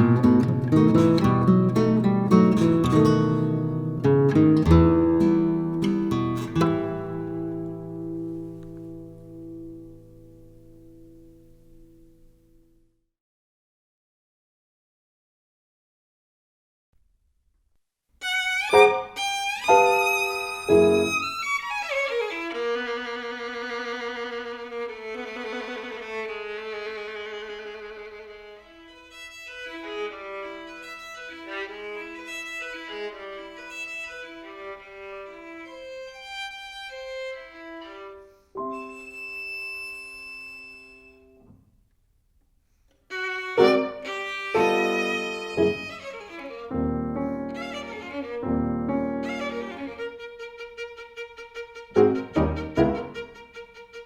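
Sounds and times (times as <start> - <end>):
violin music: 0.0 - 9.5, 18.2 - 41.5, 43.1 - 54.0.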